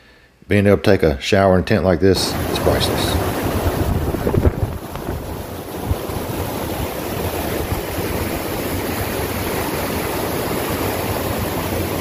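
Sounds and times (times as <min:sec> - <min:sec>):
water rushing over rocks: 0:02.2 - 0:12.0.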